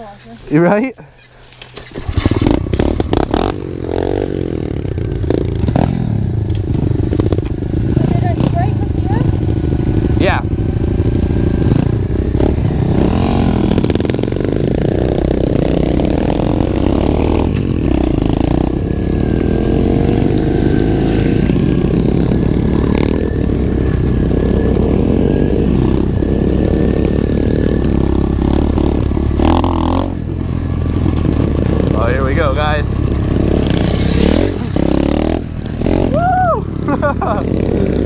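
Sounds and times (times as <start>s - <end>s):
motorbike engine running: 1.8s - 38.0s.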